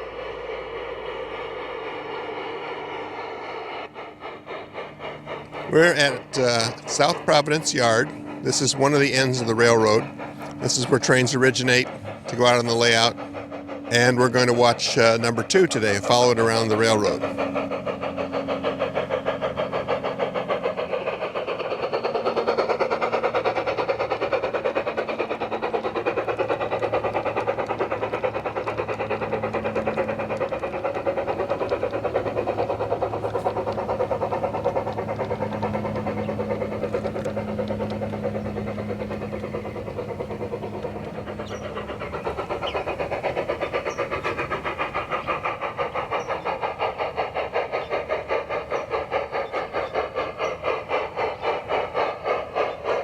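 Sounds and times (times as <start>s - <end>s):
model train motor humming: 0.0s - 53.0s.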